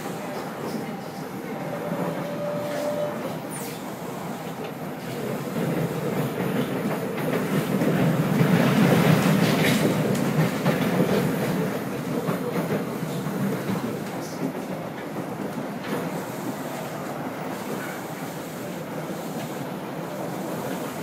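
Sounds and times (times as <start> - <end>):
metro train rumbling on track: 0.0 - 21.0.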